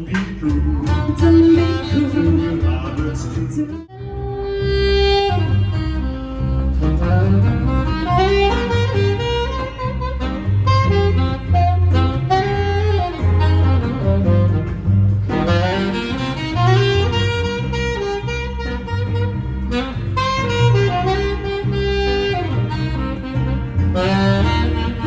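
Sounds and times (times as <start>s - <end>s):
bass line: 0.0s - 25.0s
saxophone melody: 0.0s - 25.0s.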